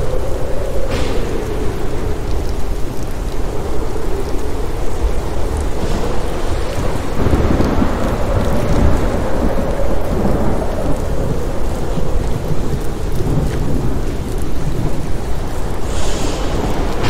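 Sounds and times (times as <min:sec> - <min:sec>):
low rumble of thunder: 0:00.0 - 0:17.0
steady rain falling: 0:00.0 - 0:17.0.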